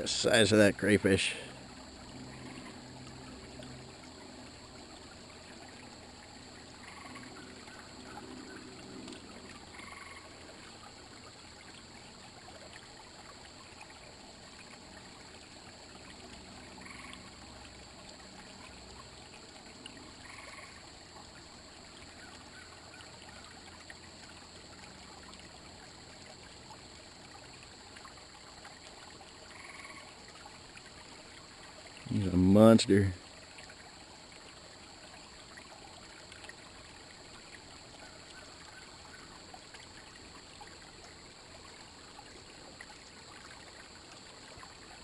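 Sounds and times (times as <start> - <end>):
creek water trickling: 0.0 - 45.0.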